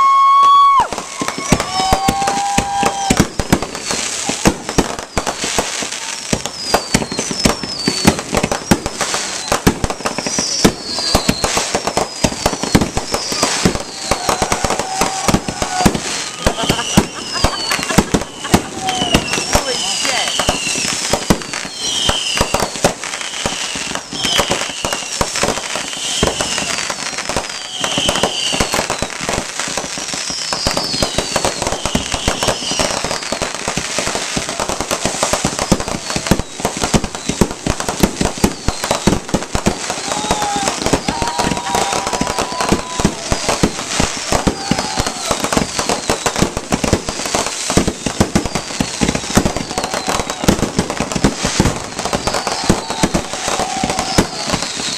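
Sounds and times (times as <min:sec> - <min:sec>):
fireworks crackling and banging: 0:00.0 - 0:54.9
short high firework whistles: 0:00.0 - 0:54.9.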